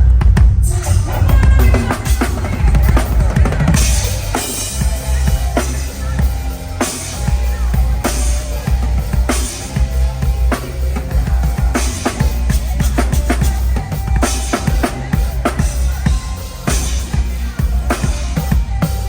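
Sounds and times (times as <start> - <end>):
live band playing through speakers: 0.0 - 19.0.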